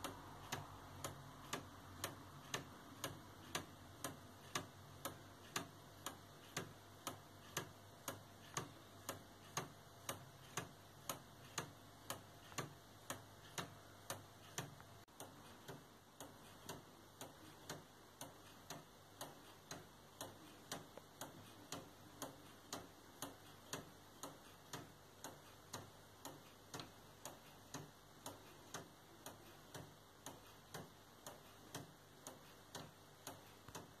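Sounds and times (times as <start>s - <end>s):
pendulum clock ticking: 0.0s - 34.0s.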